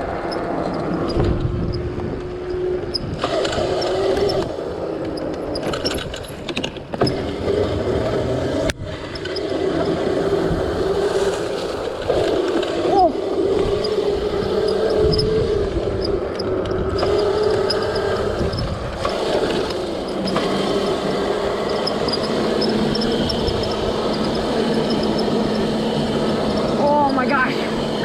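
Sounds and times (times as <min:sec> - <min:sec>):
electric motor whine: 0:00.0 - 0:28.0
rushing wind: 0:00.0 - 0:28.0.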